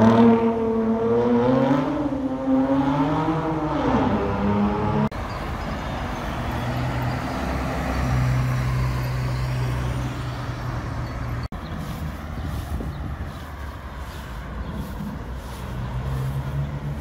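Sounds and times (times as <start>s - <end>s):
sports car engine drone: 0.0s - 10.4s, 11.3s - 17.0s
city traffic: 0.0s - 17.0s.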